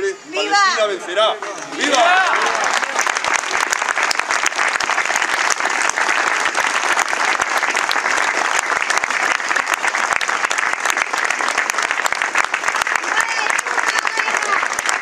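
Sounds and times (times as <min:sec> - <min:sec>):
crowd applauding: 0:01.2 - 0:15.0.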